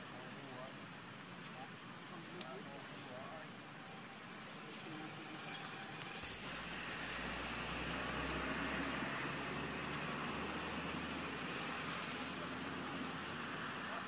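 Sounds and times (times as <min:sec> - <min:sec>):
outdoor ambient hiss: 0:00.0 - 0:14.0.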